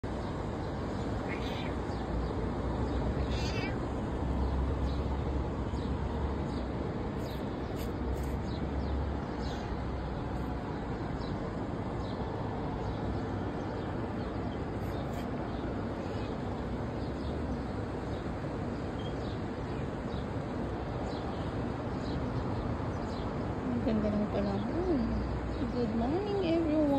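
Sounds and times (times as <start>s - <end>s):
city traffic hum: 0.0s - 26.9s
small birds chirping: 0.0s - 26.9s.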